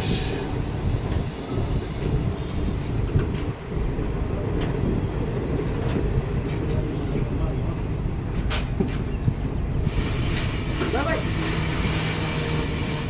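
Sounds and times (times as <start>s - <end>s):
train coach rumbling on track: 0.0s - 13.0s.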